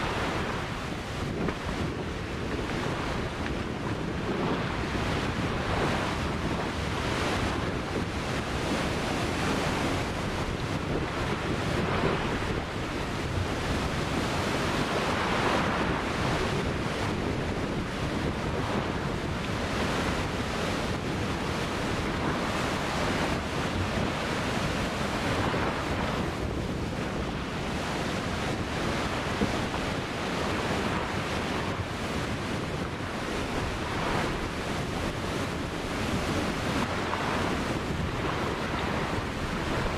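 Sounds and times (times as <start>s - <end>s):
ocean waves breaking on beach: 0.0s - 39.9s
wind on microphone: 0.0s - 39.9s.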